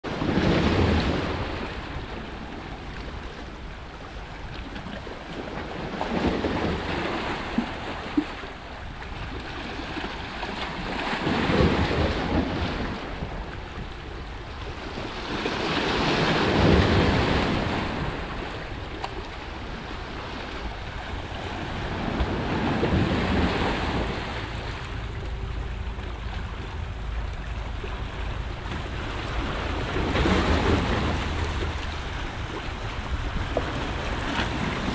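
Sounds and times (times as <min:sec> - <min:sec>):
low wind rumble on microphone: 0:00.0 - 0:34.9
sea waves washing over rocks: 0:00.1 - 0:34.9.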